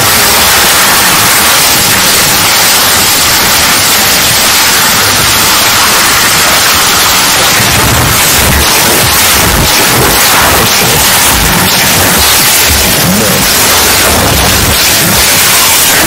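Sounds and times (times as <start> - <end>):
loud static hiss: 0.0 - 16.0.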